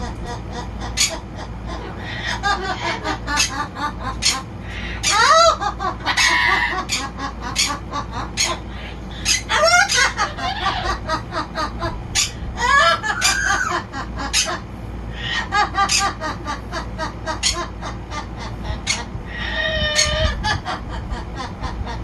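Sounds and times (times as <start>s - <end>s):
chicken squawks: 0.0s - 22.0s
chickens clucking: 0.0s - 22.0s.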